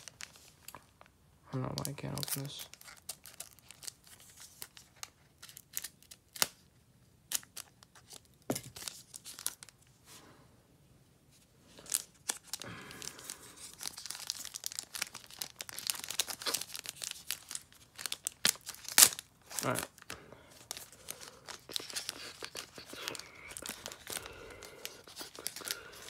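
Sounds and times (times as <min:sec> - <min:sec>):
plastic wrapper crinkling and tearing: 0:00.0 - 0:06.7, 0:07.3 - 0:09.8, 0:11.7 - 0:26.0.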